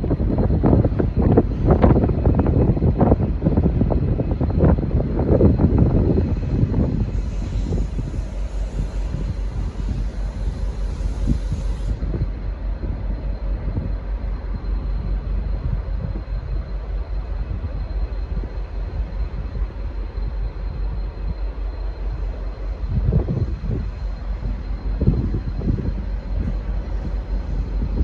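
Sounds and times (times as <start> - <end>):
diesel locomotive rumbling: 0.0 - 28.0
faint steady whine: 0.0 - 28.0.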